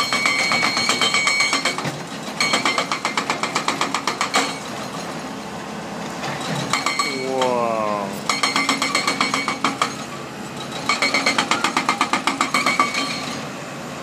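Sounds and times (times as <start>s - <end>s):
diesel machinery running: 0.0s - 14.0s.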